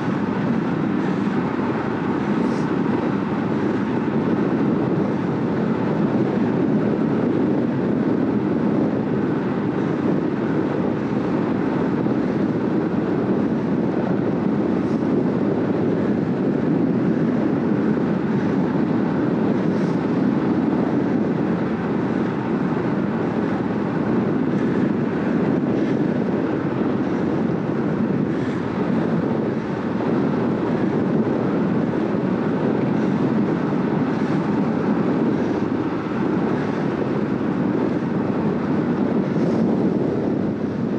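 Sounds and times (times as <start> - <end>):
bike tyres on asphalt: 0.0 - 40.9
wind rushing over microphone: 0.0 - 40.9.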